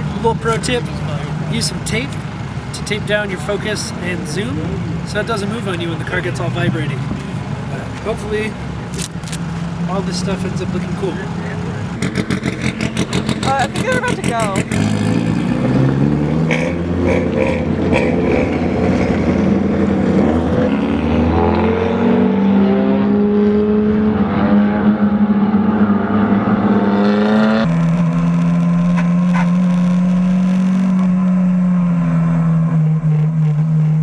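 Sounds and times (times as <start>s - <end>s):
race car engine running hard: 0.0s - 34.0s.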